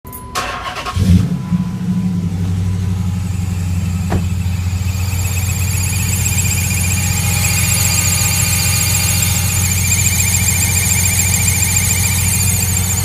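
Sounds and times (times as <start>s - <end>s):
car engine starting and idling: 0.1s - 13.0s
high-pitched engine whine: 0.4s - 13.0s.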